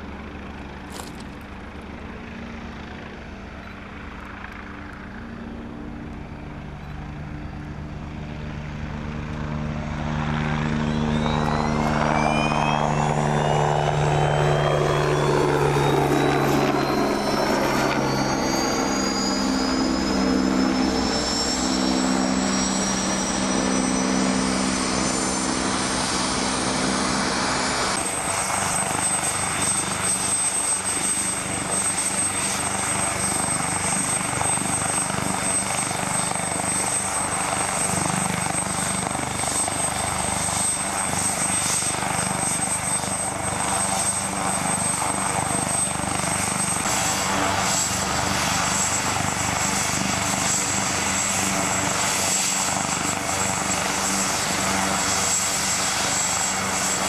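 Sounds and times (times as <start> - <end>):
helicopter climbing overhead: 0.0 - 57.0
helicopter rotor noise: 0.0 - 57.0
helicopter turbine whine: 0.0 - 57.0.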